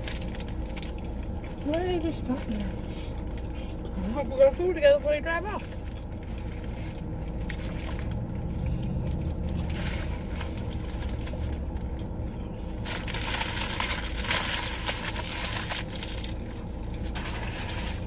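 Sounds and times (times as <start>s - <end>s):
paper wrappers crinkling: 0.0s - 18.0s
vehicle low hum: 0.0s - 18.0s.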